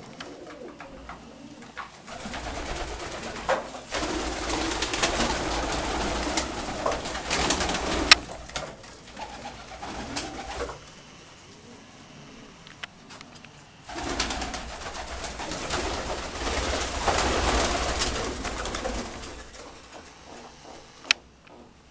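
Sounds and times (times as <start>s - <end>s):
pigeons cooing: 0.0s - 13.2s, 13.8s - 21.1s.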